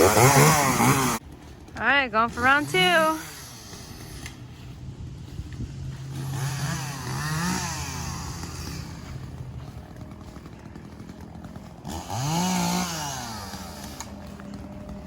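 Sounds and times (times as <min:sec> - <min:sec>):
chainsaw engine revving: 0:00.0 - 0:01.2, 0:02.2 - 0:04.6, 0:05.8 - 0:15.0.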